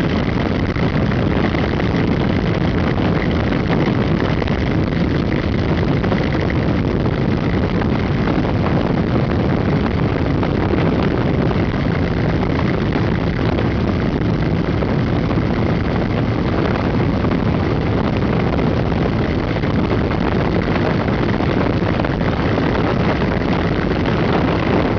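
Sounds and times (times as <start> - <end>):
road noise: 0.0 - 24.9
wind noise: 0.0 - 24.9.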